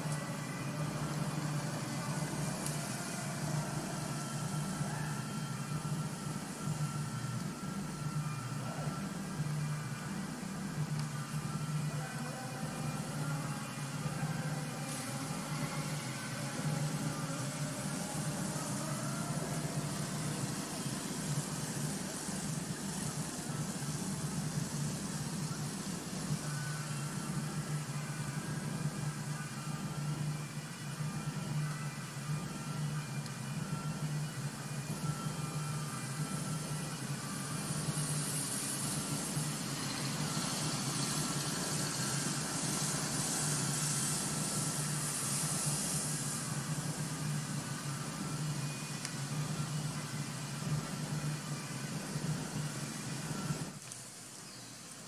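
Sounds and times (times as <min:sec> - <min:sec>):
even hiss: 0:00.0 - 0:55.0
low mechanical hum: 0:00.0 - 0:55.0.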